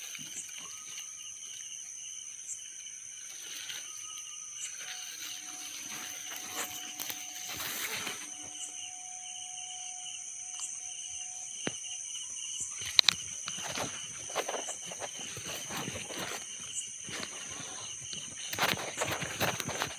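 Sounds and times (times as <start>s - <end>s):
rustling and crunching: 0.0s - 9.5s, 12.6s - 19.9s
high-pitched insect drone: 0.0s - 19.9s.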